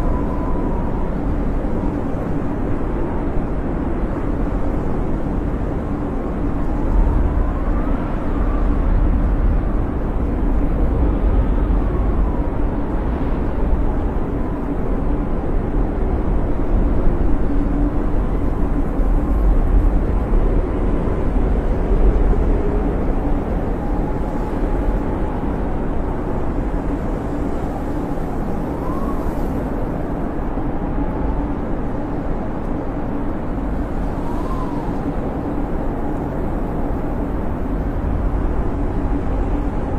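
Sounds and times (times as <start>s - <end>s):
thin wind whistles: 0.0s - 39.9s
wind howling: 0.0s - 39.9s.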